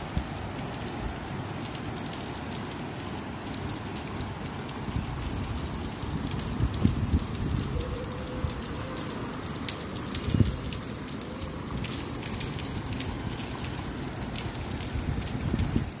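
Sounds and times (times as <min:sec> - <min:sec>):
rain on concrete roof: 0:00.0 - 0:16.0.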